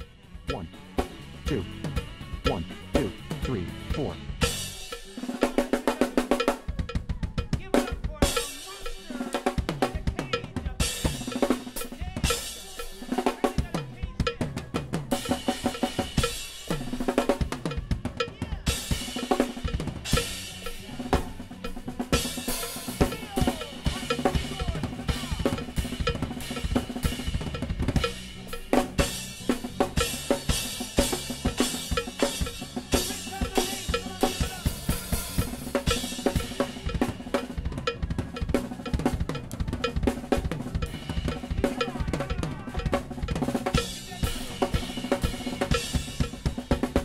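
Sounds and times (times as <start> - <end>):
fast drum solo: 0.0 - 47.0.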